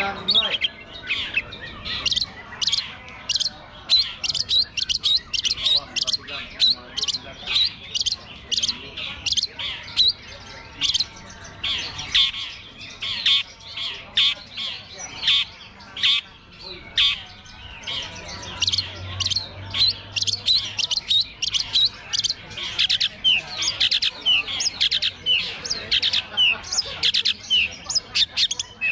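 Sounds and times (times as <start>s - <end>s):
shrike chirping and squawking: 0.0s - 28.9s.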